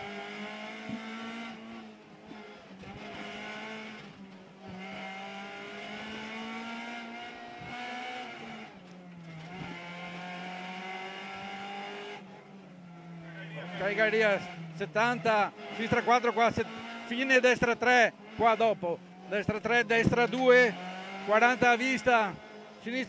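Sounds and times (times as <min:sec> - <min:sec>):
car engine from inside cabin: 0:00.0 - 0:23.0.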